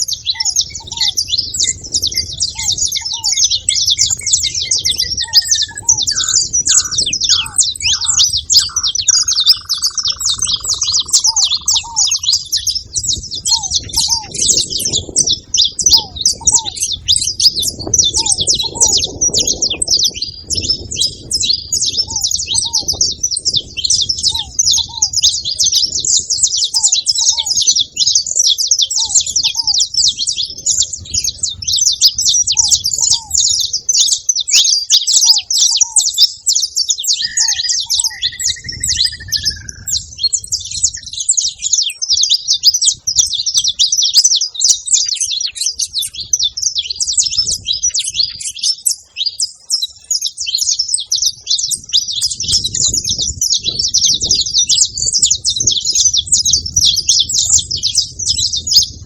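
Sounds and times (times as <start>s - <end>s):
finches chirping: 0.0s - 58.9s.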